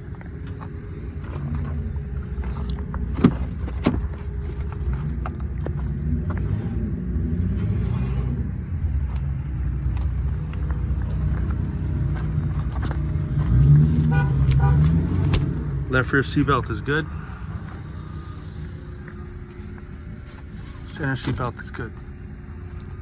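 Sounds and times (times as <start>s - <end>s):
low engine-like rumble: 0.0s - 23.0s.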